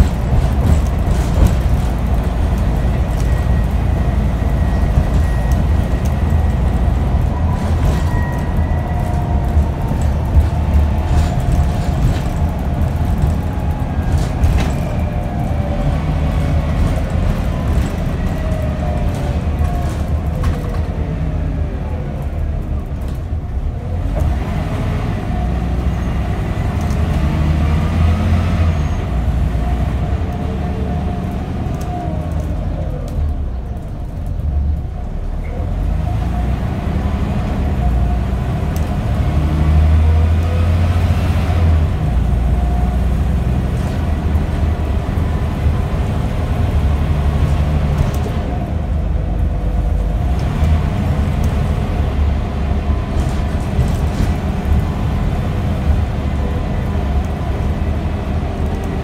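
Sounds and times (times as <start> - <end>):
bus diesel engine accelerating: 0.0 - 59.0.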